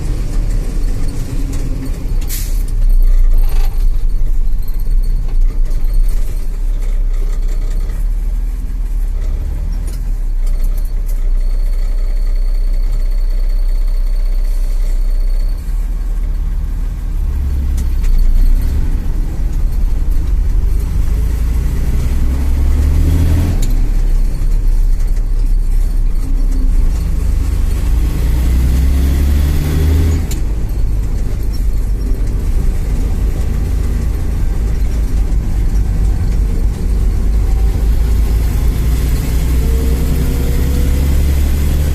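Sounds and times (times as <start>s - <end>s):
diesel truck engine revving: 0.0s - 41.9s.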